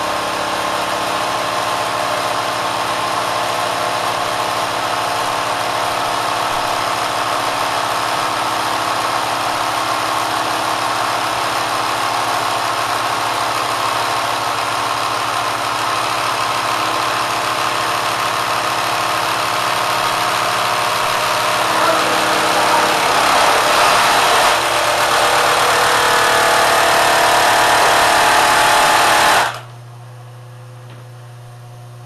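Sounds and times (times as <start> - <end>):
sewing machine running fast: 0.0 - 29.7.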